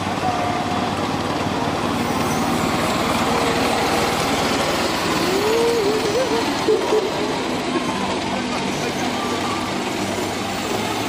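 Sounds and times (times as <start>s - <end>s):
small steam locomotive pulsing: 0.0s - 11.0s.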